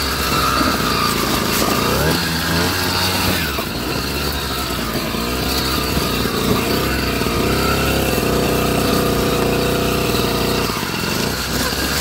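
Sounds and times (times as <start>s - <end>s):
rumble over rough dirt trail: 0.0s - 12.0s.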